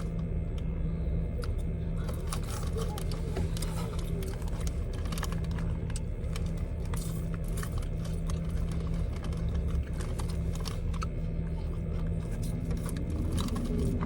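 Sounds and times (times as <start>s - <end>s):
small clicks and crackles: 0.0s - 14.0s.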